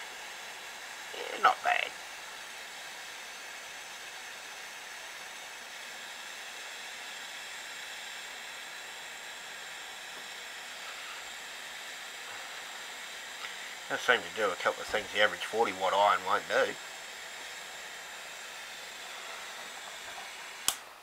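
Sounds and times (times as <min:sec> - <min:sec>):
hiss of burning gas: 0:00.0 - 0:21.0.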